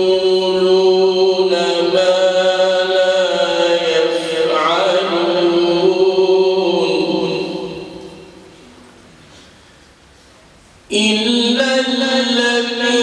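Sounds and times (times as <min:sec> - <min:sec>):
man chanting melodically: 0:00.0 - 0:08.4, 0:10.9 - 0:13.0.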